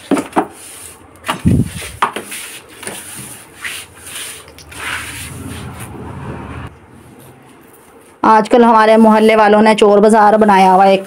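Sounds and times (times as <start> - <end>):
broom sweeping stone floor: 0.0 - 11.0.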